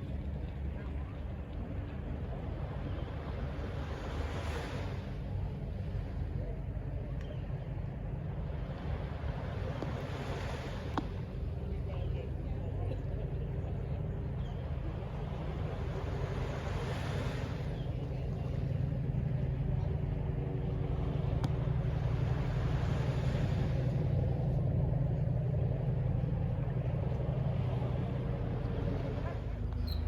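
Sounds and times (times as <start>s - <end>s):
distant city traffic rumble: 0.0s - 30.0s
vehicles passing: 0.0s - 30.0s.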